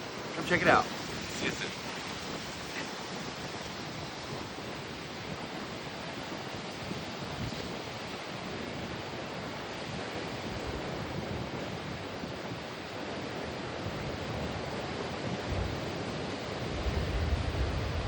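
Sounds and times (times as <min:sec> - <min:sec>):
waves breaking: 0:00.0 - 0:18.0
wind buffeting microphone: 0:00.0 - 0:18.0.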